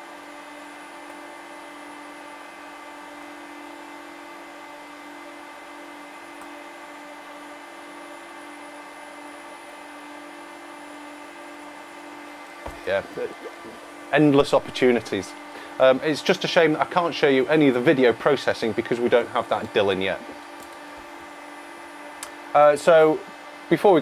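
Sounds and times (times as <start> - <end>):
cooling fans whirring hum: 0.0 - 24.0.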